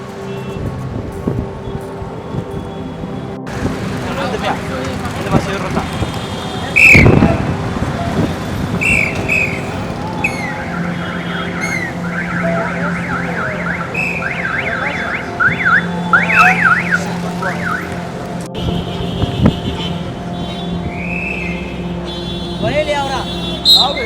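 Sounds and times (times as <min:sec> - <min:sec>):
street traffic: 0:00.0 - 0:24.0
car alarm chirping and warbling: 0:01.6 - 0:24.0.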